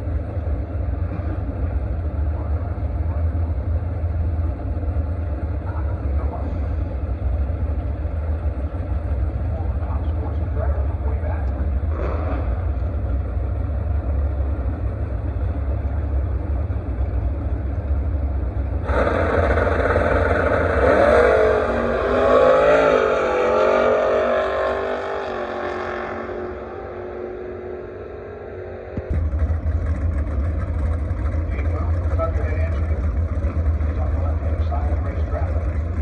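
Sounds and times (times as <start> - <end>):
steady low rumble: 0.0 - 22.1, 25.3 - 36.0
drag race car engine: 0.0 - 36.0.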